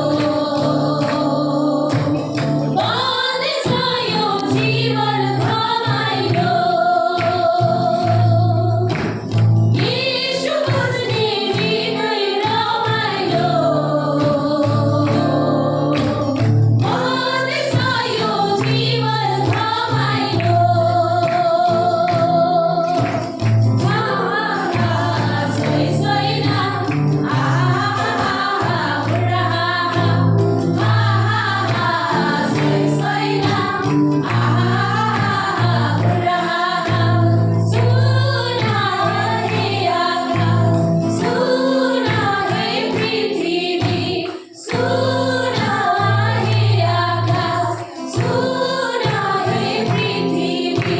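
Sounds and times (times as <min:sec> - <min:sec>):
women singing worship song: 0:00.0 - 0:50.9.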